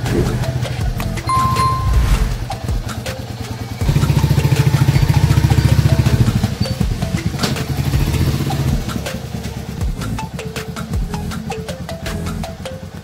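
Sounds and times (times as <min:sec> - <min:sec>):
motorcycle engine running: 0:00.1 - 0:11.5.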